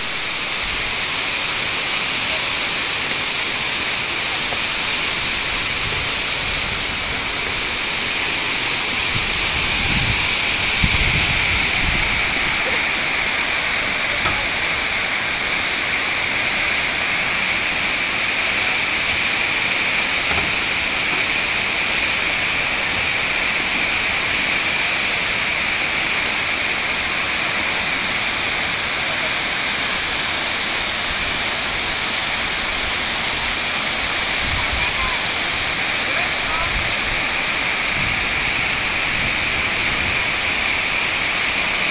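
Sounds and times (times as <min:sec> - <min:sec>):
waterfall rushing onto rocks: 0:00.0 - 0:41.9.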